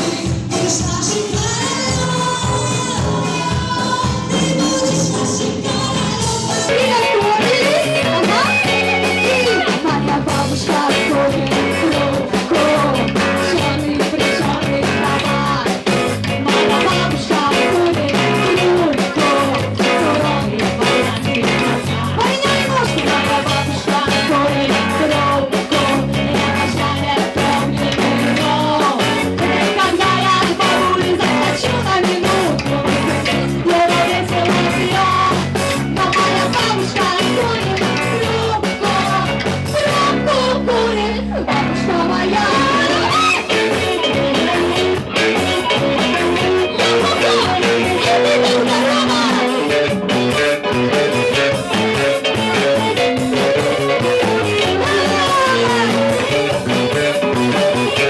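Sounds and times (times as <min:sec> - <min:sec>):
drums with steady beat: 0:00.0 - 0:40.6, 0:42.4 - 0:58.0
electric guitar: 0:00.0 - 0:58.0
person singing: 0:00.0 - 0:58.0.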